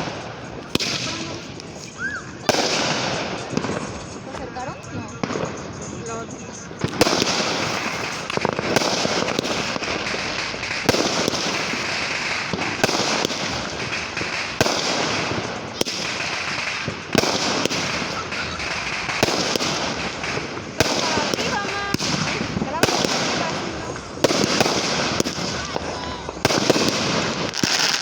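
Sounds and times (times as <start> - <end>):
fireworks bangs: 0.0 - 28.0
fireworks hissing crackle: 0.0 - 28.0.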